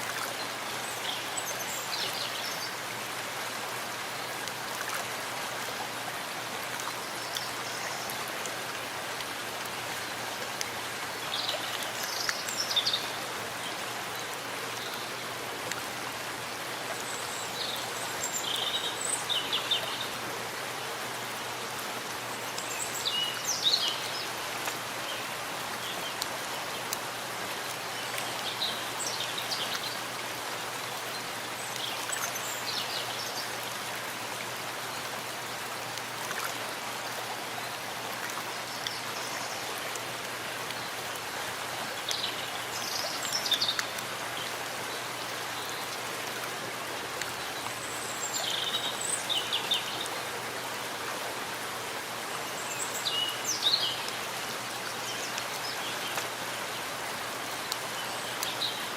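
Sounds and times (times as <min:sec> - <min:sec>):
rain falling in forest: 0:00.0 - 0:58.9.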